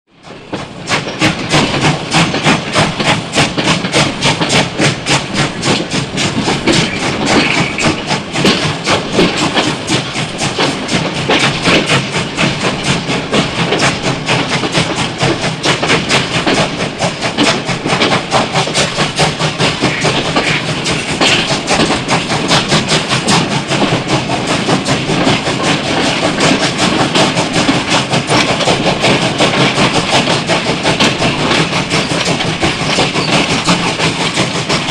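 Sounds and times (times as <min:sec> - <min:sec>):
train clattering: 0:00.1 - 0:34.9.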